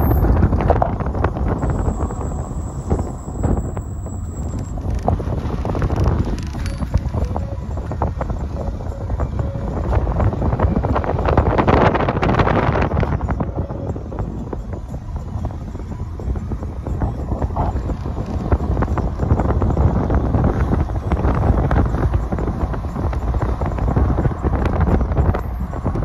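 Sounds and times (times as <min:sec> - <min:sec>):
road and engine rumble: 0:00.0 - 0:26.0
wind buffeting microphone: 0:00.0 - 0:26.0.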